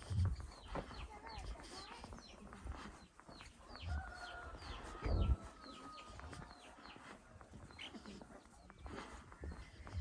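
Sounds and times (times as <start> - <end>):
chickens chirping: 0.0 - 10.0.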